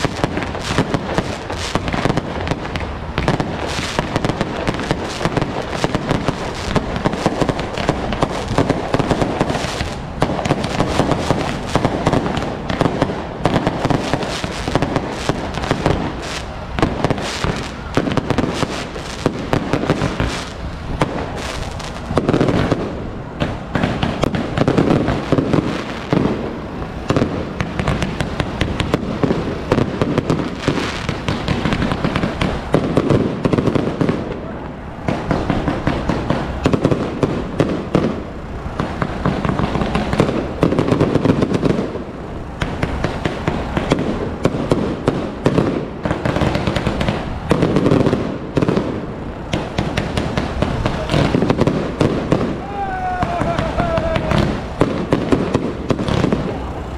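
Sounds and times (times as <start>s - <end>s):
firecrackers and fireworks banging: 0.0s - 56.9s.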